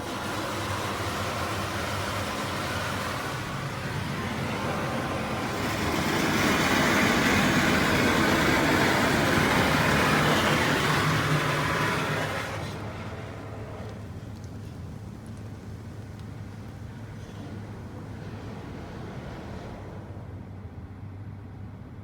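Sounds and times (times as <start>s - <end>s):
car wash rushing noise: 0.0s - 20.7s.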